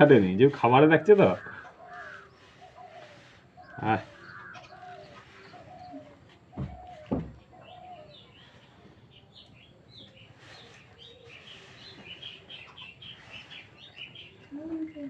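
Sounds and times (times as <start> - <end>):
baby birds chirping: 1.0 - 15.0.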